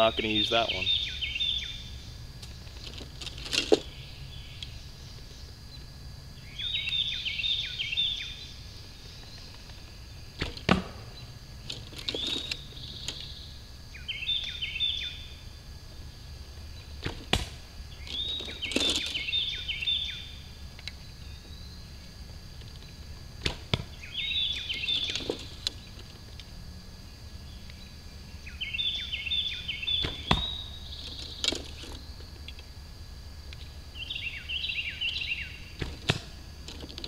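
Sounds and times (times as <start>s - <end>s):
songbird chirping: 0.0s - 37.0s.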